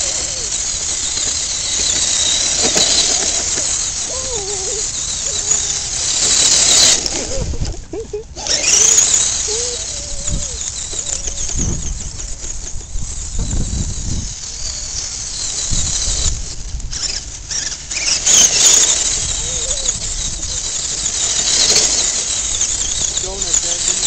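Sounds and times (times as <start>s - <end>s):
wind buffeting microphone: 0.0s - 23.9s
electric motor and gearbox whining: 0.0s - 24.0s.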